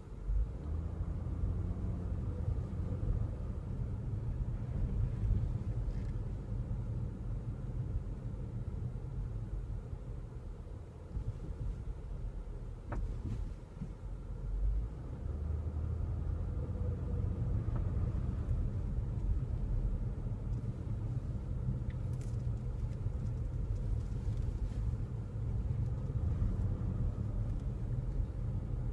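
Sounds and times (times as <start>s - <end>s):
car road rumble: 0.0s - 28.9s.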